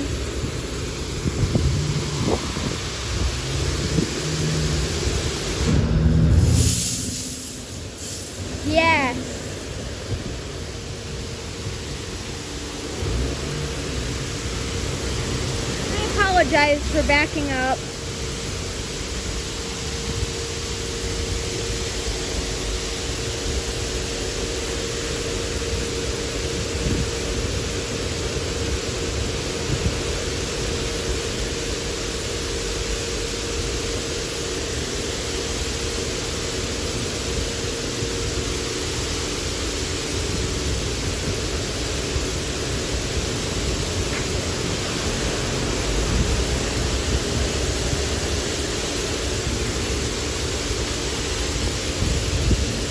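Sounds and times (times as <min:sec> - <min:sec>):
high-pressure water spray: 0:00.0 - 0:52.9.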